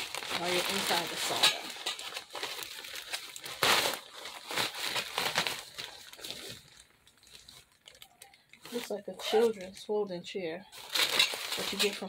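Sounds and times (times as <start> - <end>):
plastic bag crinkling: 0.0 - 10.0, 10.6 - 12.0.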